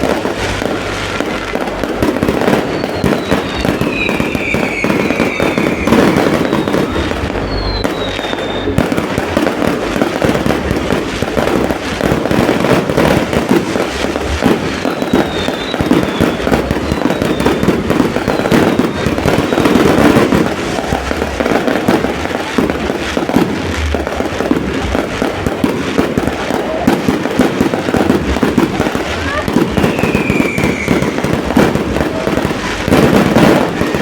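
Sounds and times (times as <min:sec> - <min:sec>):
fireworks crackling and banging: 0:00.0 - 0:34.0
fireworks falling whistles: 0:00.0 - 0:34.0.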